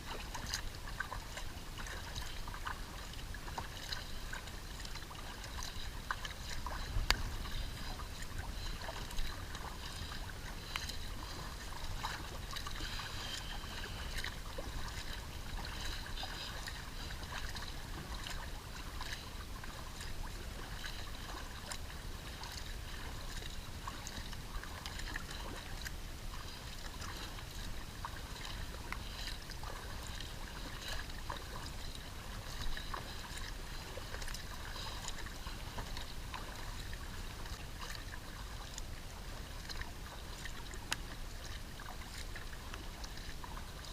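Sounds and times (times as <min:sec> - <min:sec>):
paddle splashing in water: 0:00.0 - 0:43.9
water dripping off paddle: 0:00.0 - 0:43.9.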